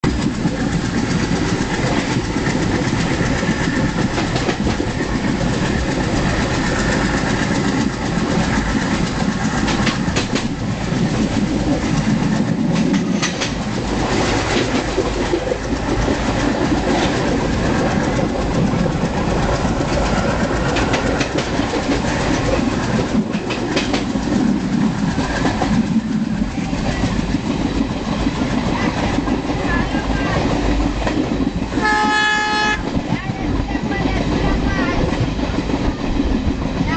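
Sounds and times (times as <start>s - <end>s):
train rumble: 0.0s - 36.9s
wheels clicking over rail joints: 0.0s - 36.9s.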